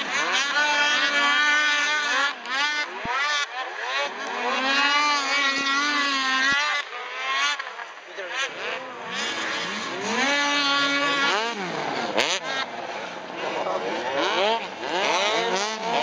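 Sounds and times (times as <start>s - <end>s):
snowmobile engines revving: 0.0s - 16.0s.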